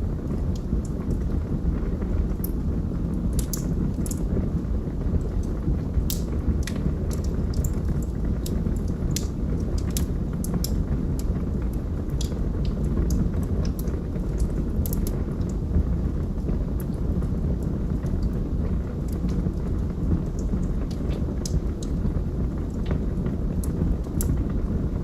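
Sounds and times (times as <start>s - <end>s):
log fire crackling: 0.0s - 25.0s.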